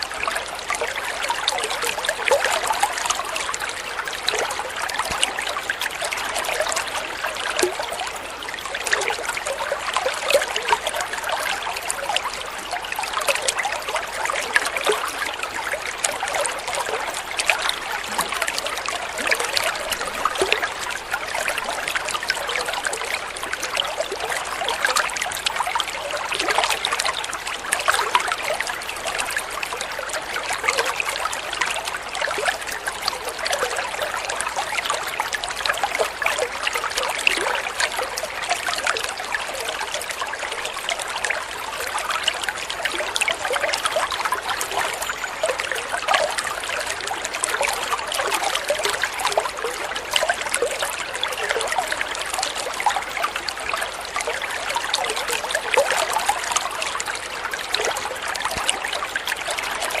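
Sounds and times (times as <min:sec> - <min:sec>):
stream water trickling: 0:00.0 - 1:00.0.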